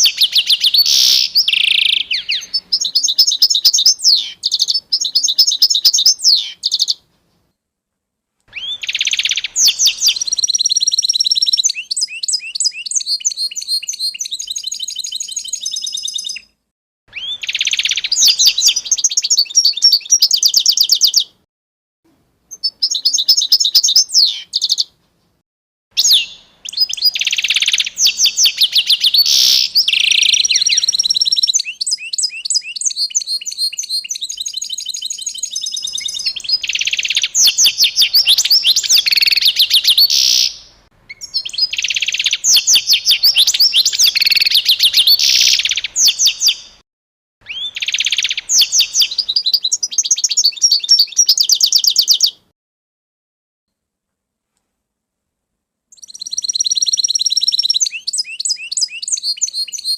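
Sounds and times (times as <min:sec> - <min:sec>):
songbirds chirping and trilling: 0:00.0 - 0:07.5, 0:08.5 - 0:21.4, 0:22.5 - 0:25.0, 0:26.0 - 0:46.8, 0:47.4 - 0:52.5, 0:55.9 - 0:59.9.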